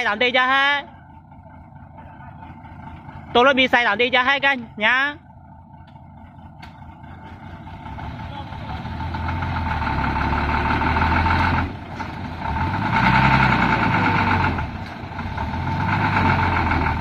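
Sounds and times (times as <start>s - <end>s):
heavy truck engine revving: 0.0s - 17.0s.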